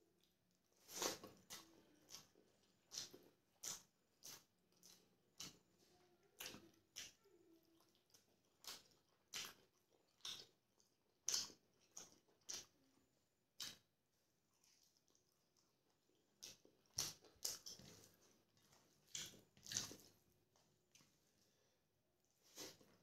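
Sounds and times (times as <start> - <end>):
person chewing with wet clicks: 0.0 - 21.6.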